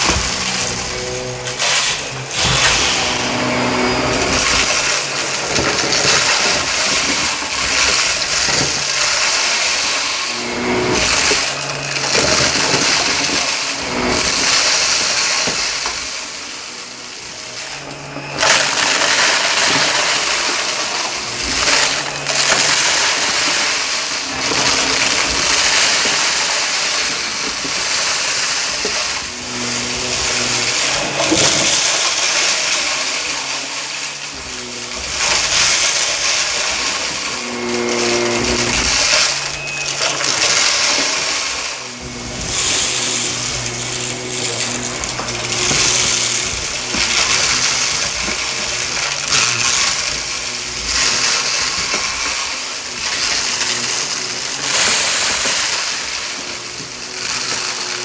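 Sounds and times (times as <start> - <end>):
debris crackling into vacuum: 0.0 - 16.7, 17.3 - 58.0
vacuum cleaner on carpet: 0.0 - 58.0.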